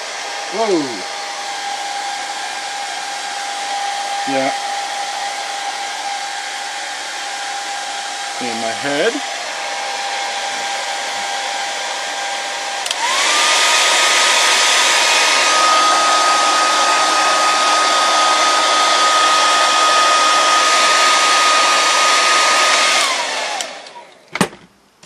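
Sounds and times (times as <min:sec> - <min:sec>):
hair dryer running: 0:00.0 - 0:24.2.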